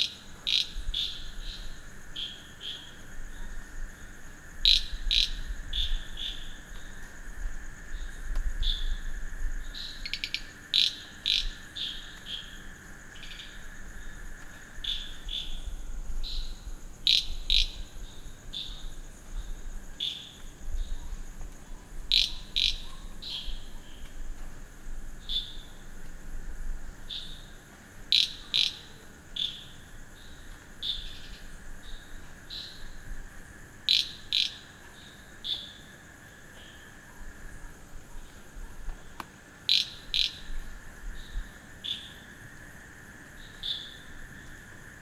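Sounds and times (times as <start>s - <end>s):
frogs calling: 0.0s - 21.2s, 22.1s - 24.1s, 25.2s - 26.0s, 26.9s - 45.0s
high insect trill: 0.0s - 45.0s.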